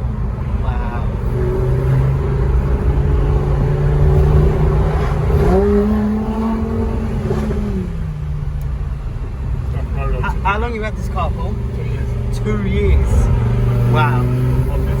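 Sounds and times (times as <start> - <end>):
car engine revving inside cabin: 0.0 - 15.0.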